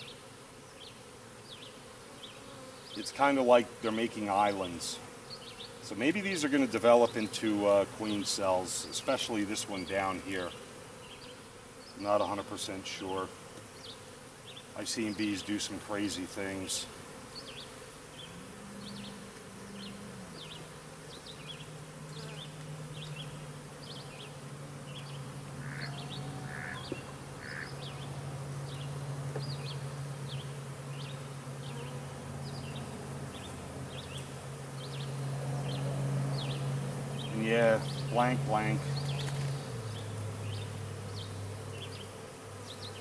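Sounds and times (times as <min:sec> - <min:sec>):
bees buzzing: 0:00.0 - 0:43.0.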